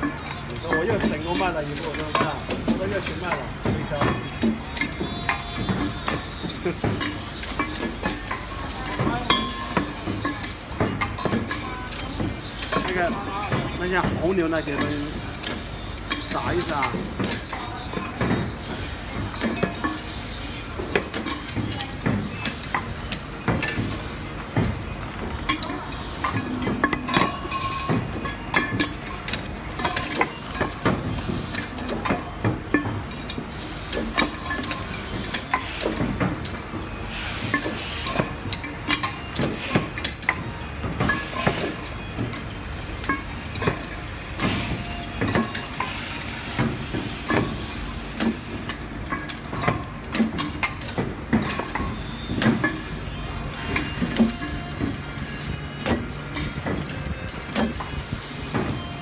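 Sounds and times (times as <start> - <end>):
machine running noise: 0.0 - 59.0.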